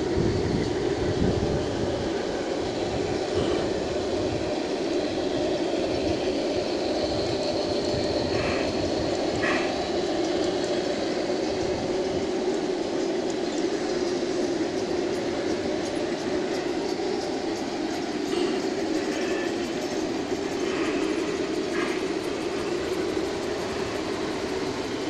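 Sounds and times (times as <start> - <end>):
model train rumbling on track: 0.0 - 25.0
wind buffeting microphone: 0.0 - 25.0.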